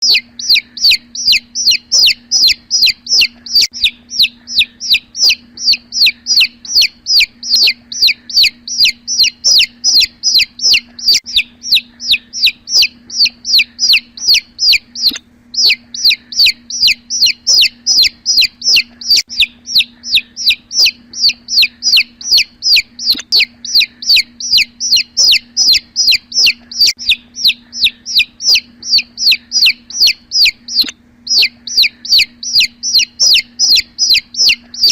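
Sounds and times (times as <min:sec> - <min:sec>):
chick peeping: 0:00.0 - 0:34.9
faint low hum: 0:00.0 - 0:34.9.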